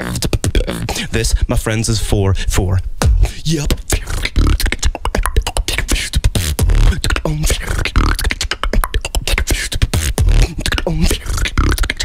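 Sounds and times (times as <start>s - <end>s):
beatboxing into a microphone: 0.0s - 12.0s.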